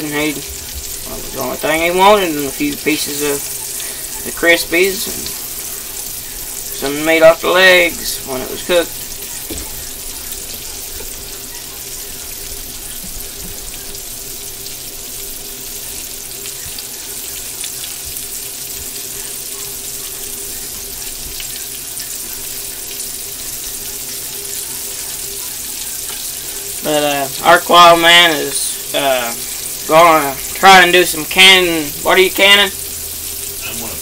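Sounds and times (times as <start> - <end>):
meat sizzling in a pan: 0.0 - 34.0.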